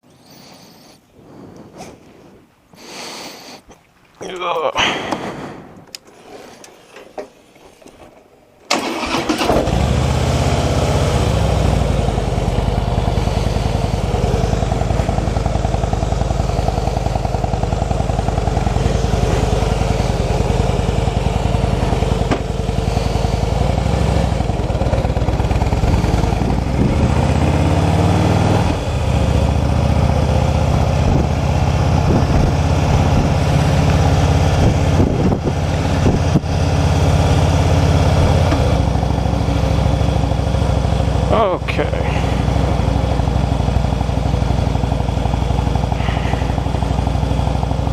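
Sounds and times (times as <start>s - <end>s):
motorcycle engine idling: 8.8s - 47.9s.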